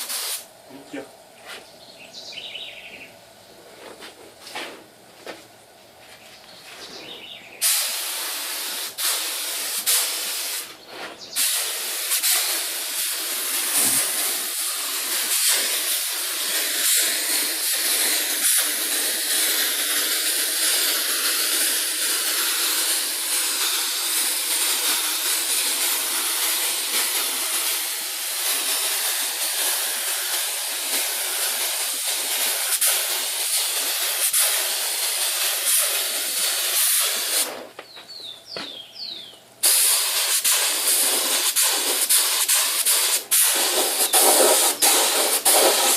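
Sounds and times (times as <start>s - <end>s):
paint spray gun hissing: 0.0s - 1.0s, 7.0s - 37.8s, 39.6s - 45.9s.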